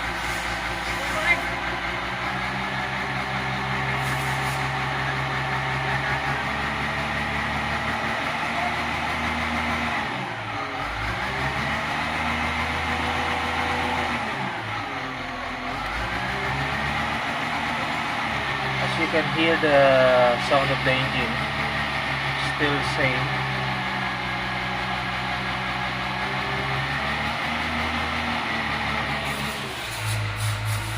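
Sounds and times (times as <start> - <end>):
diesel engine running unsteadily: 0.0 - 30.9.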